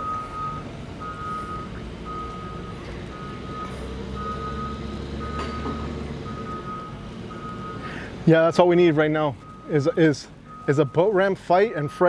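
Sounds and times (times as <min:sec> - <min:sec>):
truck engine running: 0:00.0 - 0:12.0
truck reversing alarm beeping: 0:00.0 - 0:12.0.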